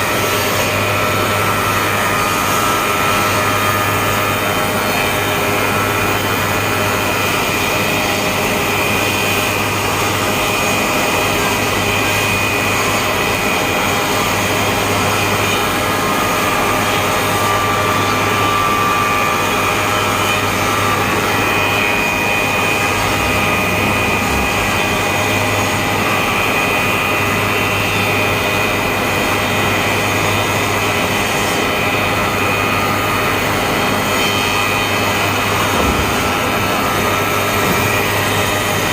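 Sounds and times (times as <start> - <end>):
machine whining tones: 0.0 - 38.9
wood moulding machine running: 0.0 - 38.9.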